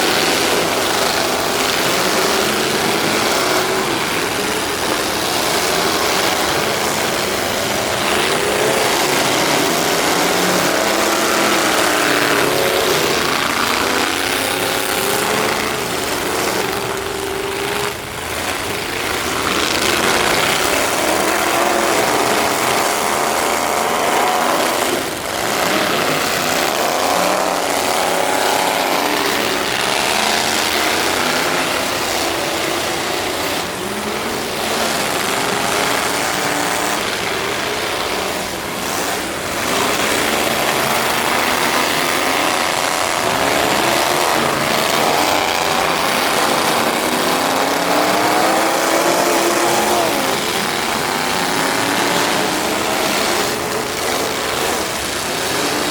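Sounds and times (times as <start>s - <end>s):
noisy din: 0.0s - 55.9s
truck engines revving: 0.0s - 55.9s.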